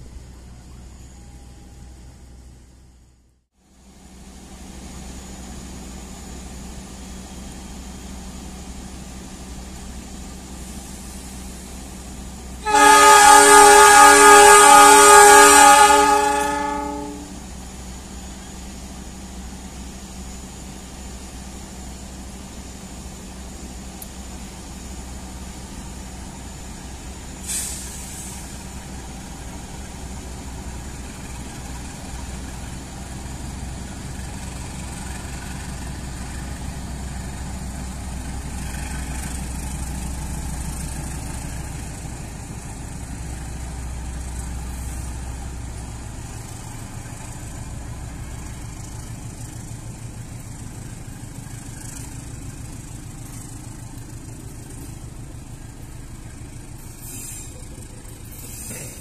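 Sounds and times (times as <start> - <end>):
locomotive engine droning: 0.0 - 59.0
train coaches rolling on rails: 4.1 - 59.0.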